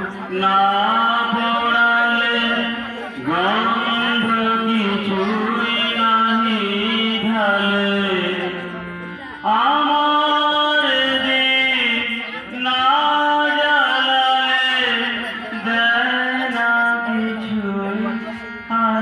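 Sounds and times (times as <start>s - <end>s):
harmonium: 0.0s - 19.0s
man singing slow melody: 0.0s - 19.0s.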